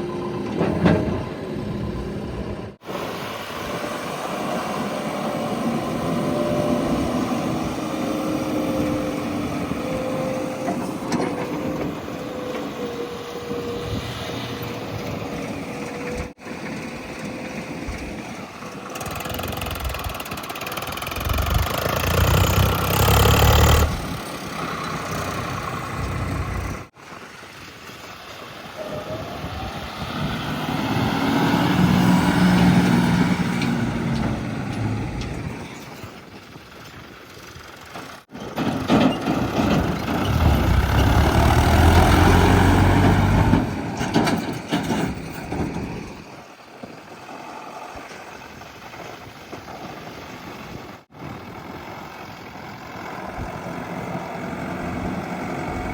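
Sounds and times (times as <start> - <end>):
heavy diesel engines revving: 0.0 - 48.8, 50.2 - 55.9.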